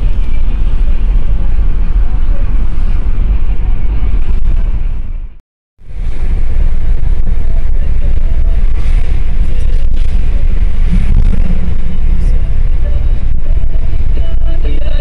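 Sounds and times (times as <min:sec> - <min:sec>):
car wind and road noise: 0:00.0 - 0:15.0.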